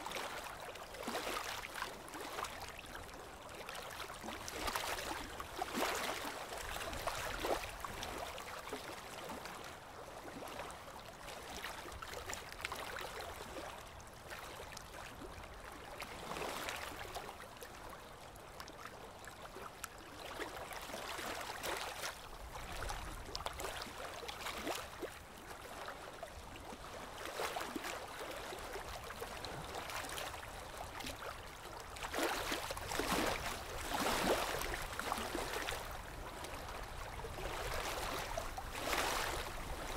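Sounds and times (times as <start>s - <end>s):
small waves lapping against rocks: 0.0s - 39.9s.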